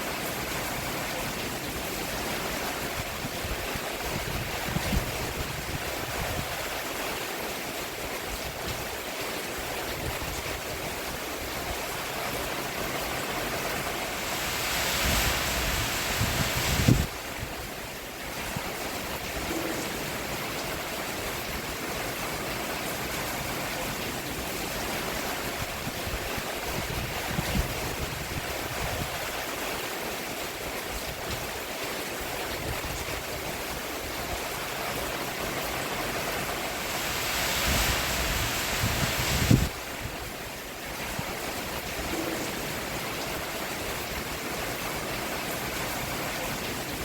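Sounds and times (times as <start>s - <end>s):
rain falling on a roof: 0.0s - 47.0s.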